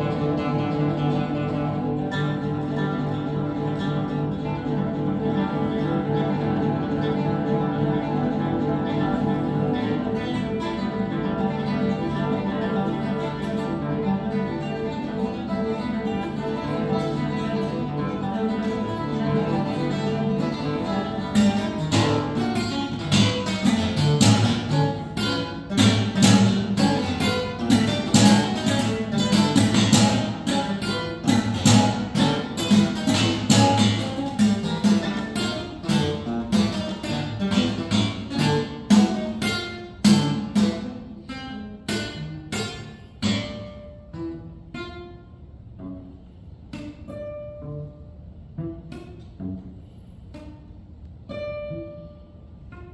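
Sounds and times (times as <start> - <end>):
classical guitars playing: 0.0 - 52.9.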